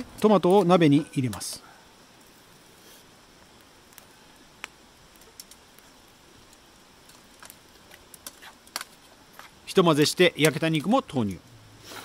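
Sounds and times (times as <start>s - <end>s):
campfire crackling and popping: 0.0s - 12.0s
low fire hiss: 0.0s - 12.0s.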